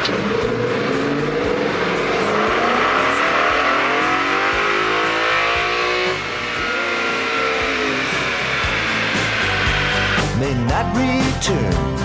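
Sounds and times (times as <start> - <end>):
car engine revving: 0.0 - 10.7
rock music: 0.0 - 12.0.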